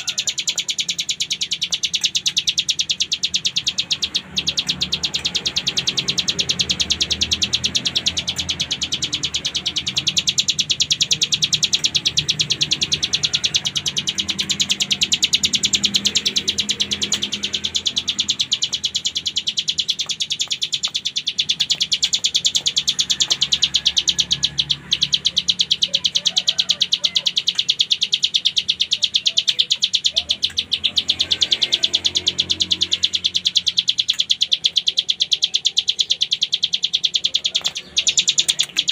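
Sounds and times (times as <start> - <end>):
bird singing fast high trill: 0.0 - 38.9.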